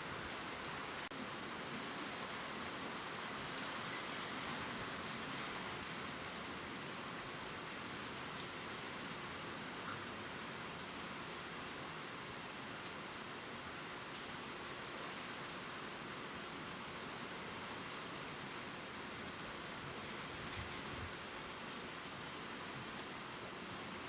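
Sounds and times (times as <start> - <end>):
gentle rain on leaves: 0.0 - 24.0.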